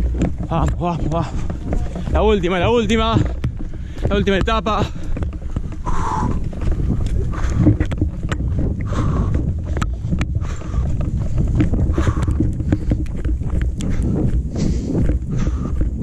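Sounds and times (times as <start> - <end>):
footfalls and trekking pole clicks: 0.0 - 16.0
microphone handling noise: 0.0 - 16.0
wind rumble on microphone: 0.0 - 16.0.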